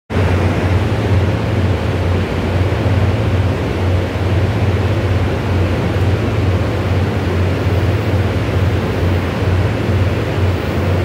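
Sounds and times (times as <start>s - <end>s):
train hum and hiss: 0.1s - 11.0s.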